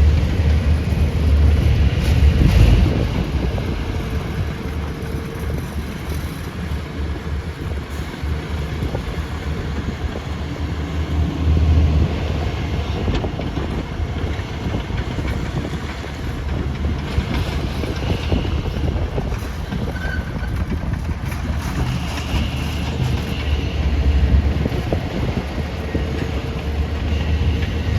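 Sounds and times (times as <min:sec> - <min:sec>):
diesel excavator engine droning: 0:00.0 - 0:27.9.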